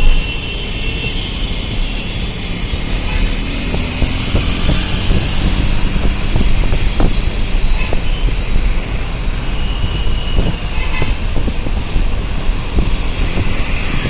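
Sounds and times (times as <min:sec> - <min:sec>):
vehicle engines and tyres rumbling: 0:00.0 - 0:14.0.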